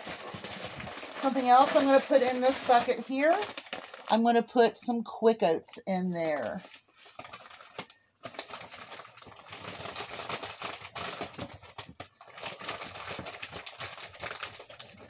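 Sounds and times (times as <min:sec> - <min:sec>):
plastic packaging crinkling: 0:00.0 - 0:04.4, 0:05.7 - 0:15.0.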